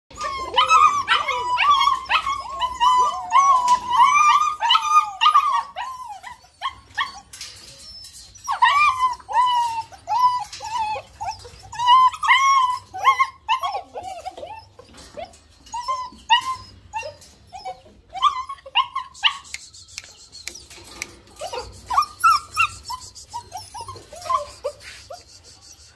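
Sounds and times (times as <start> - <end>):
puppies whining and yelping: 0.1 - 25.9.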